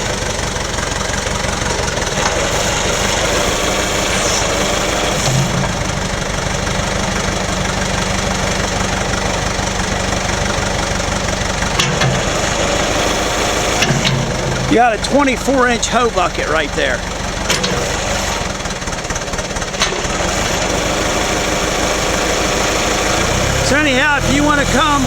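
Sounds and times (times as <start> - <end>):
backhoe diesel engine running: 0.0 - 25.0.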